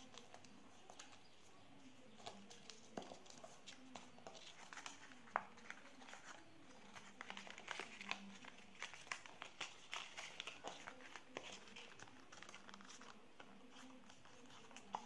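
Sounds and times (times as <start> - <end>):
paper crinkling and rustling: 0.0 - 15.0
small paper clicks: 2.0 - 15.0.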